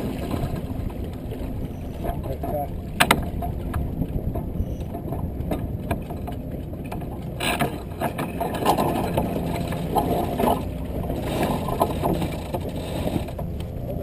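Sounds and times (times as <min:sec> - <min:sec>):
water rushing: 0:00.0 - 0:14.0
wind: 0:00.0 - 0:14.0
deck gear clicking and ratcheting: 0:02.0 - 0:13.7.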